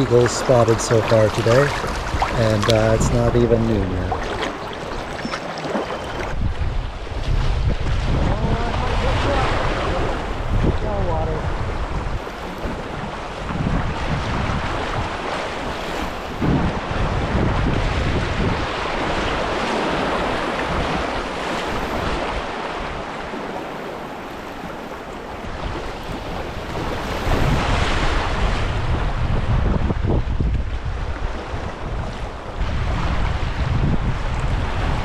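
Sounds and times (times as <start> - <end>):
choppy river water: 0.0 - 35.0
wind buffeting microphone: 0.0 - 35.0.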